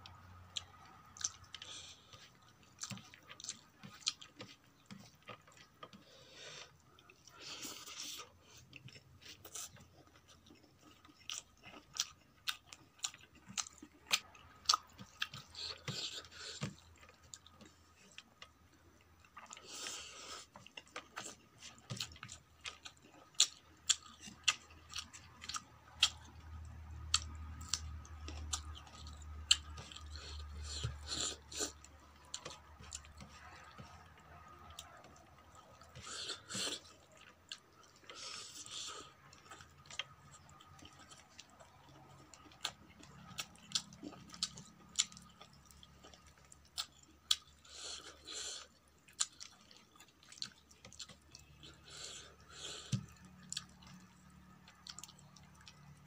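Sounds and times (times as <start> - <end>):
wet sticky chewing: 0.1 - 56.0.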